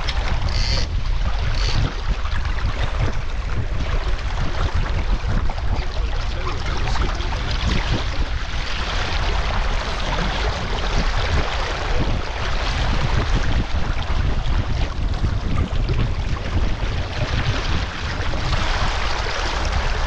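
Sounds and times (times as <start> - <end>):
water splashing along hull: 0.0 - 20.0
wind buffeting microphone: 0.0 - 20.0.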